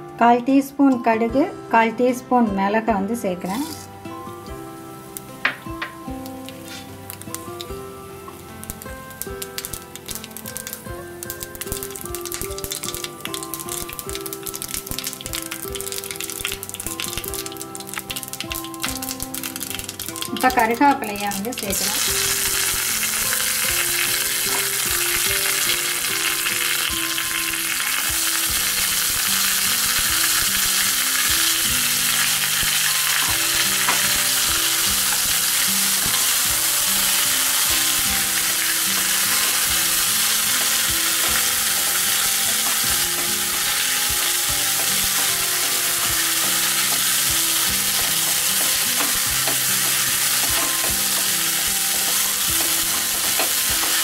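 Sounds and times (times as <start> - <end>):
hot oil sizzling in a wok: 3.4 - 54.0.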